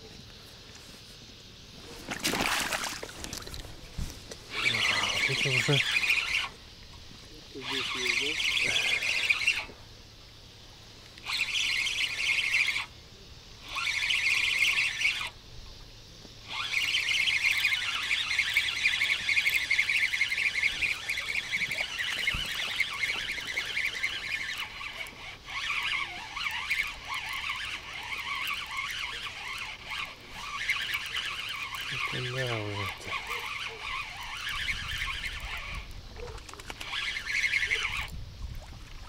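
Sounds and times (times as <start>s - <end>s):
fishing reel whirring: 2.0s - 15.4s, 16.3s - 39.0s.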